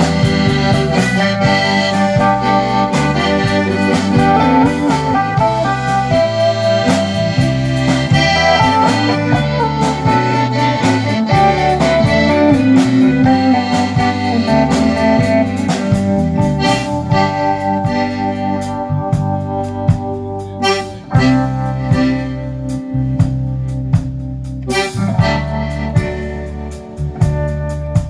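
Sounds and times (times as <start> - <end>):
button accordion: 0.0 - 27.6
bass: 0.0 - 28.0
drums: 0.0 - 28.0
electric guitar: 0.0 - 28.0.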